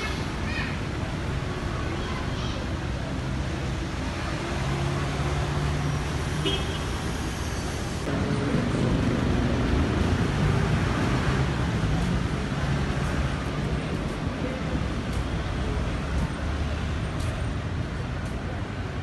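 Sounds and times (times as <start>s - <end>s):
road noise drone: 0.0s - 19.0s
street traffic engines: 0.0s - 19.0s.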